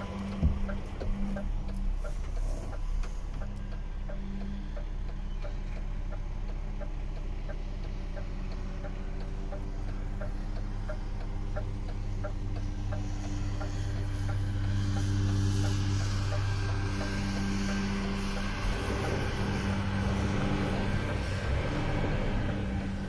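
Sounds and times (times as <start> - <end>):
diesel engine idling: 0.0 - 23.0
regular ticking: 0.0 - 23.0.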